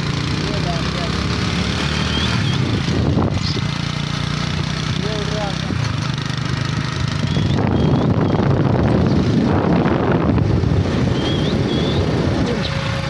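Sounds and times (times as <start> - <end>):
motorbike engine running: 0.0 - 13.0
wind buffeting microphone: 2.1 - 13.0.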